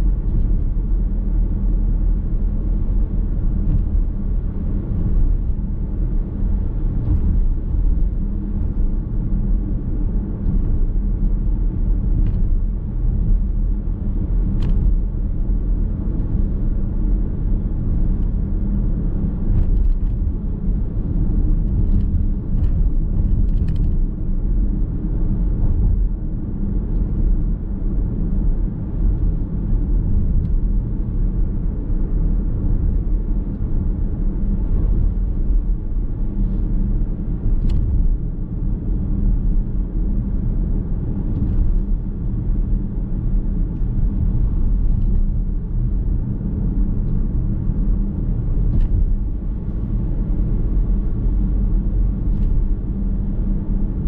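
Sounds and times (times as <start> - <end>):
car road noise from inside: 0.0 - 54.0.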